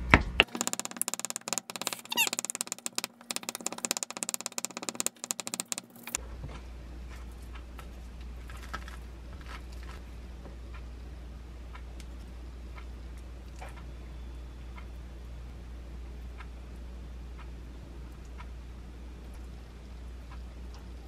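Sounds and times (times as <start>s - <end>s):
steady low hum: 2.6s - 21.0s.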